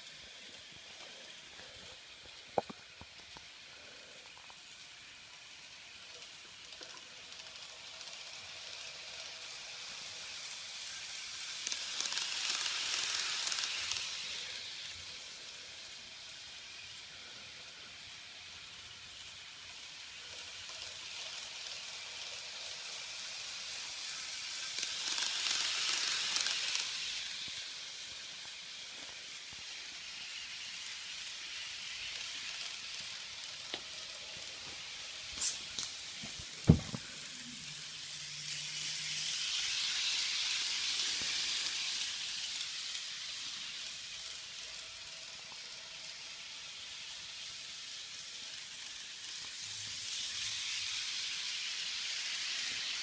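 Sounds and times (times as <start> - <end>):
model train rattling on track: 0.0 - 53.0.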